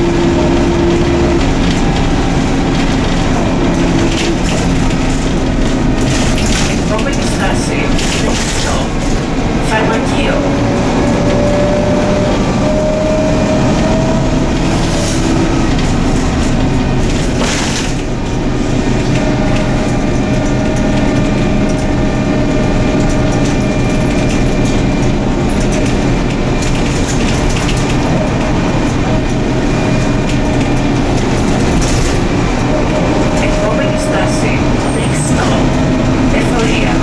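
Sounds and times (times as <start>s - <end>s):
bus fittings rattling: 0.0s - 12.7s, 13.5s - 37.0s
bus engine and road rumble: 0.0s - 37.0s.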